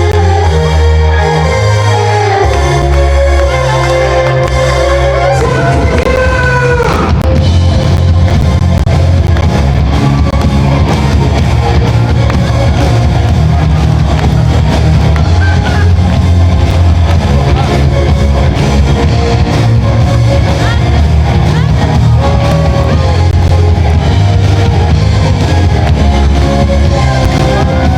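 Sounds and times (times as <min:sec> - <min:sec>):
electric guitar: 0:00.0 - 0:27.9
live rock band playing: 0:00.0 - 0:27.9
drum kit: 0:05.4 - 0:27.9.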